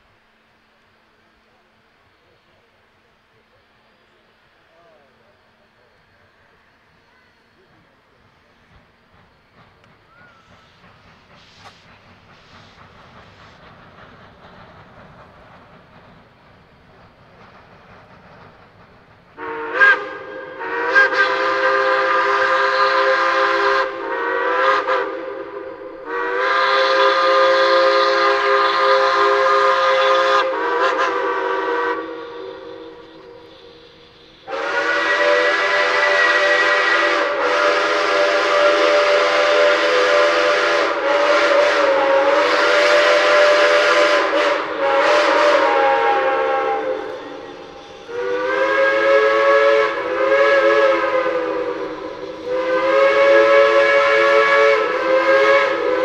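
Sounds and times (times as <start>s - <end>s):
steam locomotive whistles blowing: 0.0s - 56.0s.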